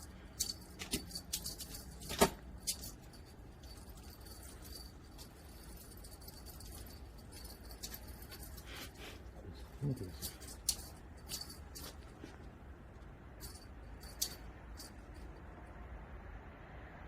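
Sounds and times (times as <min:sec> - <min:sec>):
cat toy jingling: 0:00.0 - 0:12.6, 0:13.3 - 0:15.6.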